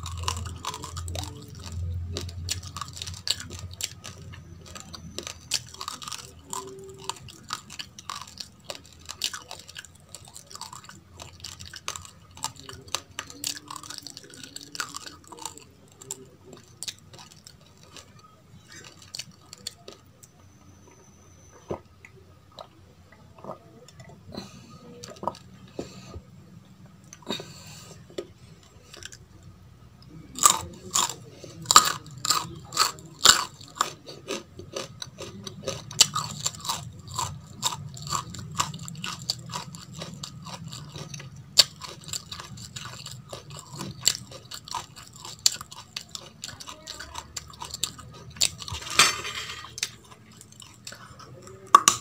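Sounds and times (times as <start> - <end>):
chewing crunchy rice grains: 0.0 - 26.3, 27.0 - 52.0.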